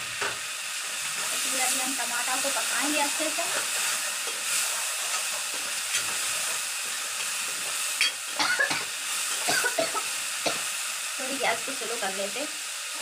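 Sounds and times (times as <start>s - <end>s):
tomato masala sizzling in oil: 0.0s - 13.0s.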